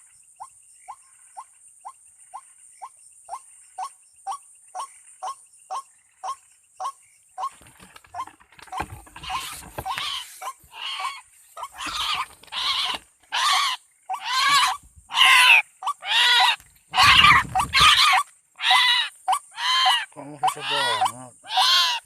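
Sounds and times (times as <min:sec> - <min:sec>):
bird harsh croaking call: 0:02.3 - 0:22.0.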